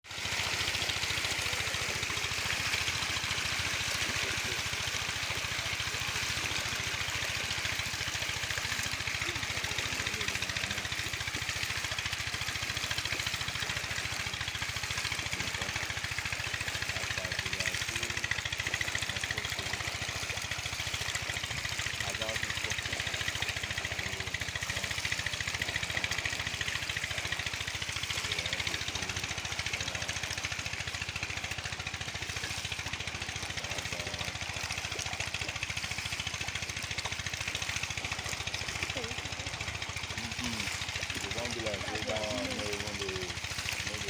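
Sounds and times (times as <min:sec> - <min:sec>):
motor humming: 0:00.1 - 0:44.0.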